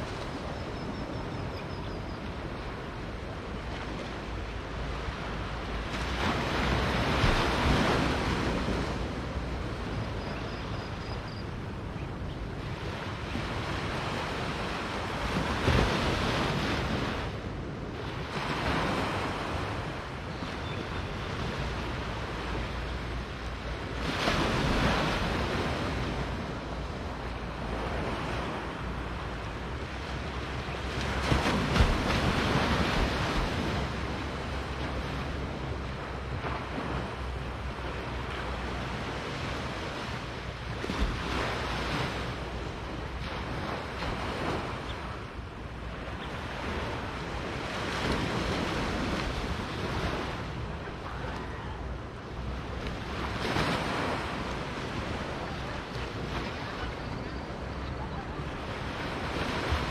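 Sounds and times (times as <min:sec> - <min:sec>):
waves washing onto beach: 0:00.0 - 0:59.9
wind rumbling on microphone: 0:00.0 - 0:59.9.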